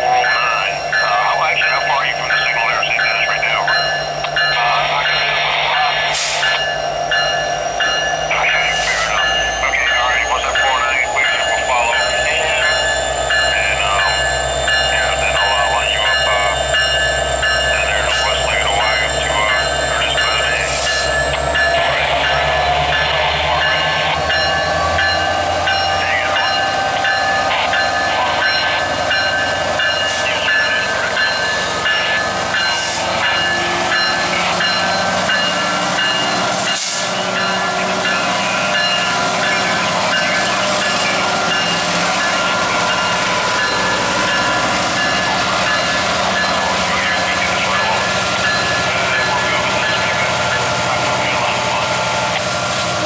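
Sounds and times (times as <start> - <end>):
diesel locomotives passing: 0.0 - 53.0
wheels rumbling on rail: 0.0 - 53.0.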